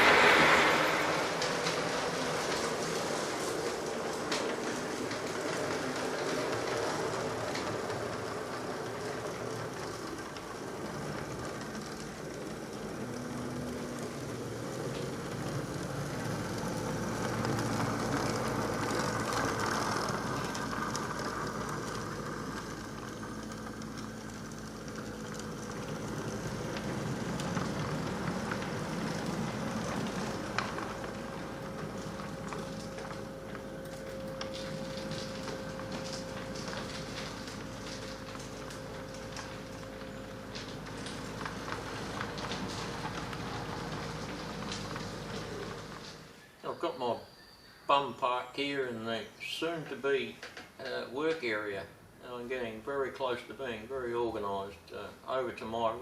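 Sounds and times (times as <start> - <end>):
model train rolling on track: 0.0 - 56.0.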